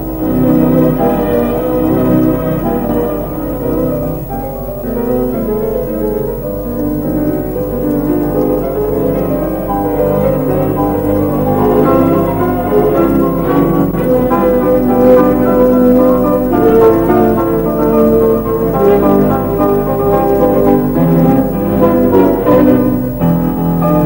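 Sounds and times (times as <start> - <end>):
classical piano music: 0.0 - 24.0.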